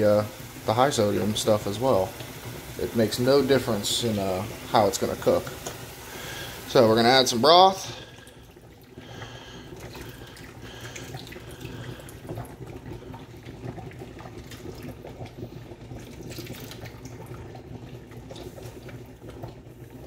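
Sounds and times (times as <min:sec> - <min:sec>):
broth pouring into a skillet: 0:00.0 - 0:20.0.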